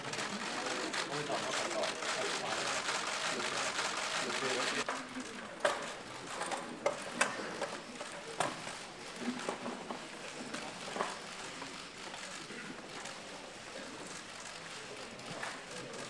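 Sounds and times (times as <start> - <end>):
crowd murmur and shuffling: 0.0 - 16.0.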